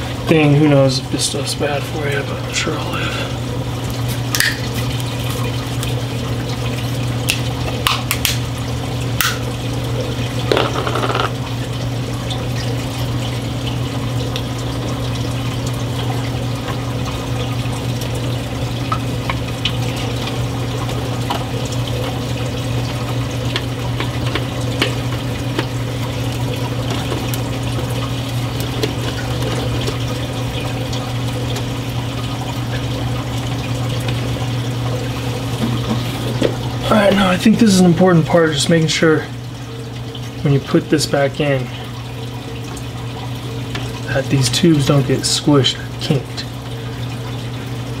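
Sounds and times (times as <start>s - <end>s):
low pump hum: 0.0s - 48.0s
water rushing: 0.0s - 48.0s.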